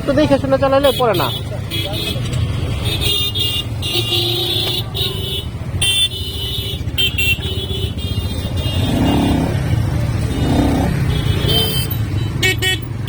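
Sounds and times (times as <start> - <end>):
motorcycle engine rumble: 0.0 - 13.0
vehicle horns tooting: 0.7 - 13.0.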